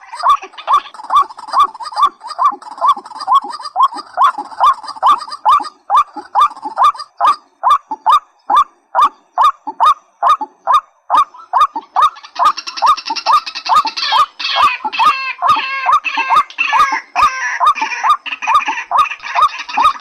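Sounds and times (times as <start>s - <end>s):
buzzy bird chatter: 0.0s - 20.0s.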